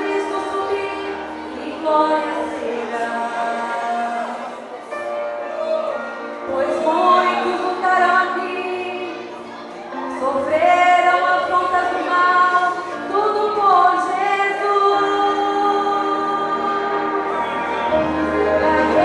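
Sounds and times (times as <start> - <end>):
gospel song with voices singing: 0.0 - 19.0.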